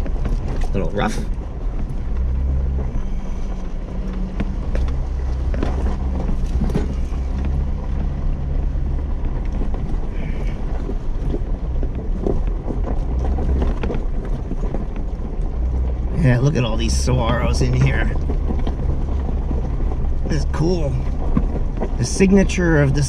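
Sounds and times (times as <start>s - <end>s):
body and suspension rattles: 0.0s - 23.0s
low engine drone: 0.0s - 23.0s.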